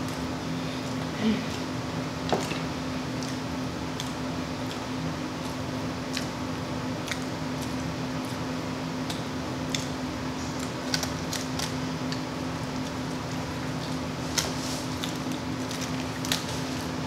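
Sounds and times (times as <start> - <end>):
steady low hum: 0.0 - 17.0
chewing with lip smacks: 2.3 - 17.0.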